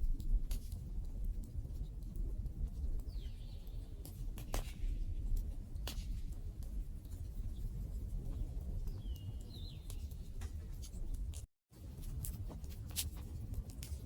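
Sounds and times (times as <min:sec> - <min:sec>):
low fire rumble: 0:00.0 - 0:14.0.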